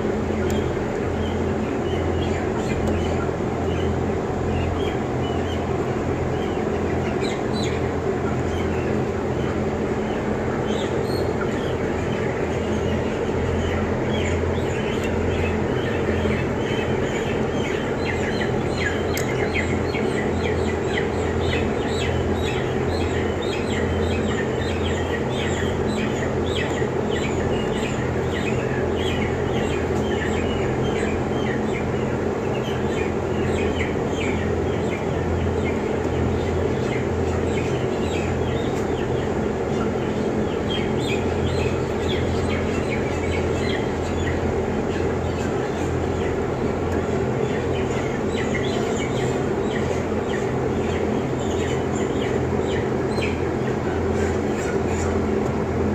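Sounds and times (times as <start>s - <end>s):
chicks peeping: 0.0s - 55.9s
equipment humming: 0.0s - 55.9s.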